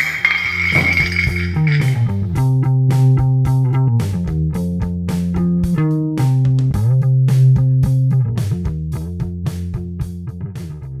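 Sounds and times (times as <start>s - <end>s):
guitar music over a beat: 1.6s - 11.0s.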